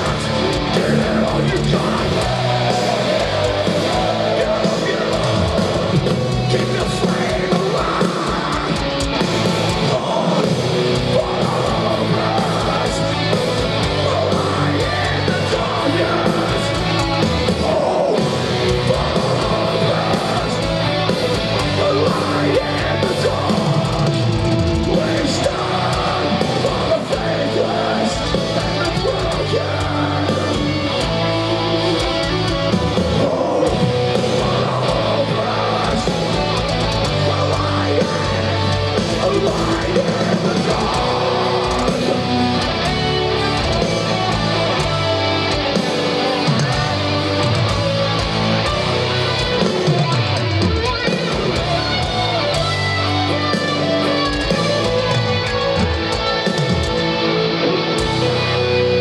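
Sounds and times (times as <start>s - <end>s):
metal band playing live: 0.0s - 59.0s.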